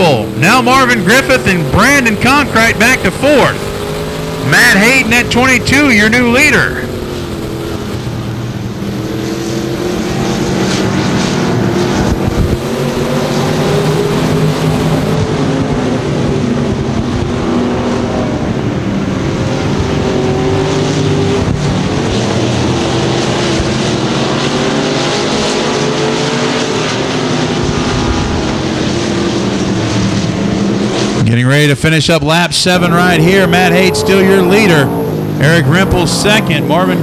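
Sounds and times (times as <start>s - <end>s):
race car engines: 0.0s - 37.0s.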